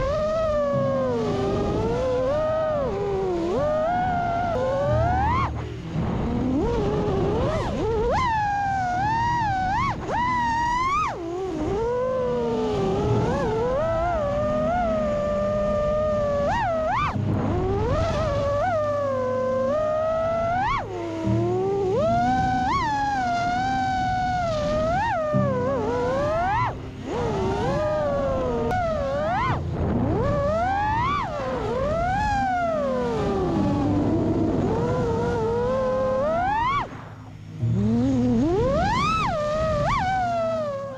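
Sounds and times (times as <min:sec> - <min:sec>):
drone motors whining: 0:00.0 - 0:40.9
wind rumble on microphone: 0:00.0 - 0:40.9.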